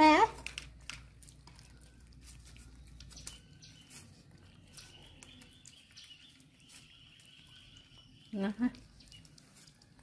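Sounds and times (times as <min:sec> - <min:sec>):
monkey chewing corn: 0:00.4 - 0:10.0.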